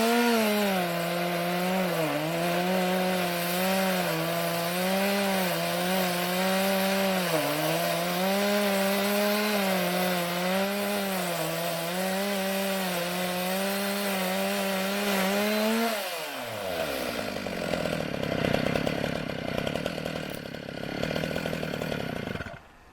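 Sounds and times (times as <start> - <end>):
chainsaw cutting log: 0.0 - 22.9.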